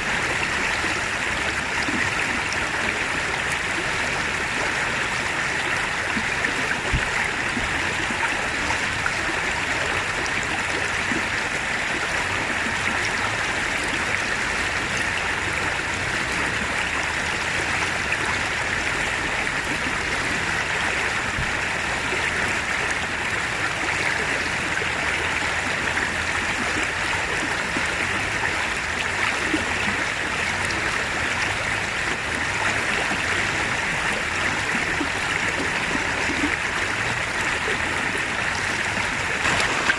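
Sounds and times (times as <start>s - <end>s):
stream rushing over rapids: 0.0s - 39.9s.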